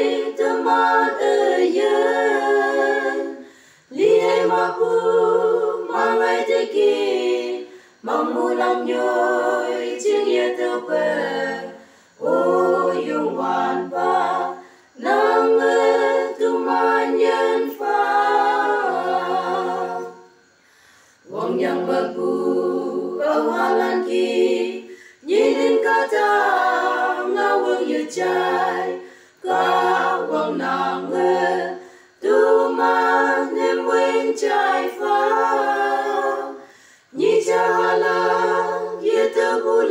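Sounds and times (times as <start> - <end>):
a cappella group singing: 0.0 - 39.9.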